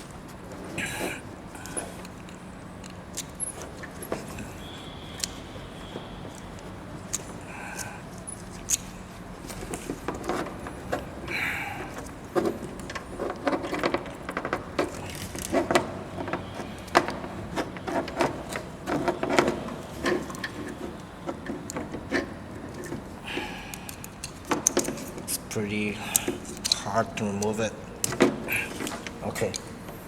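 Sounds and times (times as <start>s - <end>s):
plastic parts clicking and rattling: 0.0s - 30.0s.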